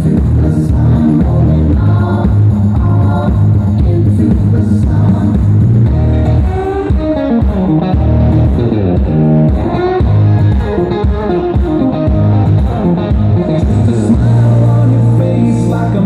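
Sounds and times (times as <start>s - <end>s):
country music over loudspeakers: 0.0s - 16.0s.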